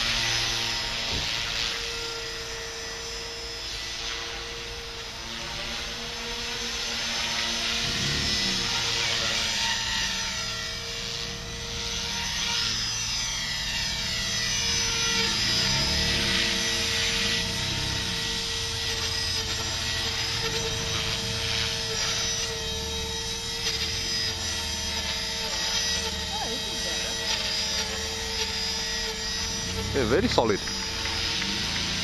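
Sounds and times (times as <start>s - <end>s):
rc helicopter motor whine: 0.0s - 32.0s
rotor blades thrumming: 5.8s - 32.0s.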